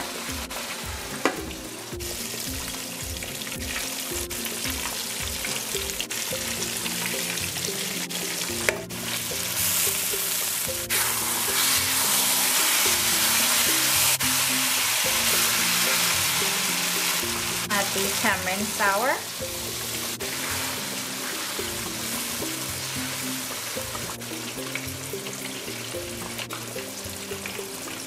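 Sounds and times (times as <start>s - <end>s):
background music with steady beat: 0.0s - 28.0s
curry simmering and sizzling: 0.0s - 28.0s.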